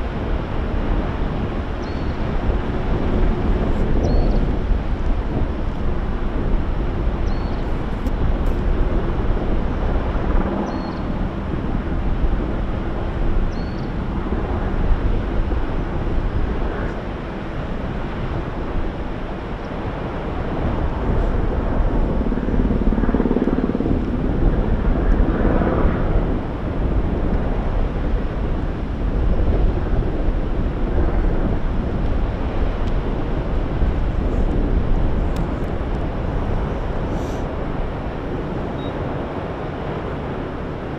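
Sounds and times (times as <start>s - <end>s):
lava fountain rumbling roar: 0.0s - 40.9s.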